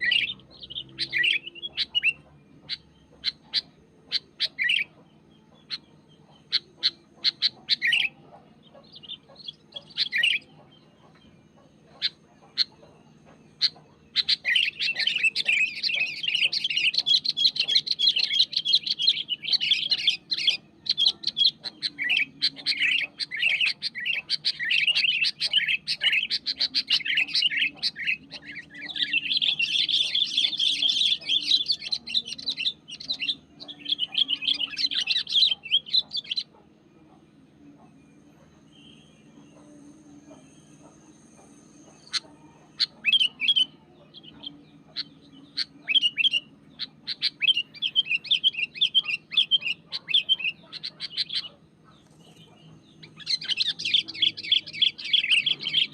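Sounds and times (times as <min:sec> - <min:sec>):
bulbul chirping and chattering: 0:00.0 - 0:55.9.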